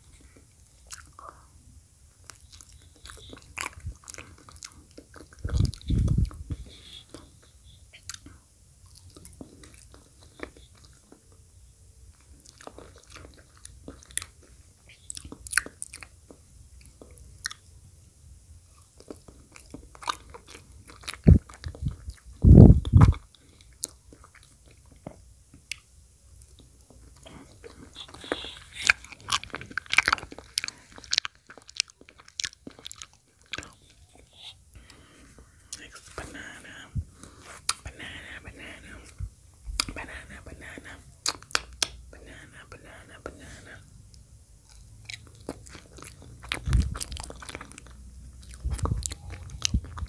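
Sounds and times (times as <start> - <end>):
wet chewing with lip smacks: 0.1 - 1.4, 2.2 - 11.2, 12.1 - 17.6, 18.7 - 50.0.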